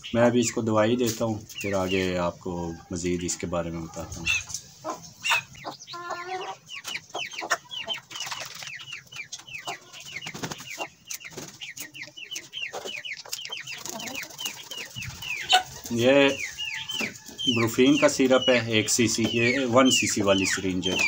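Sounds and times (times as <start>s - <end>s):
chickens clucking and peeping: 0.0s - 21.0s.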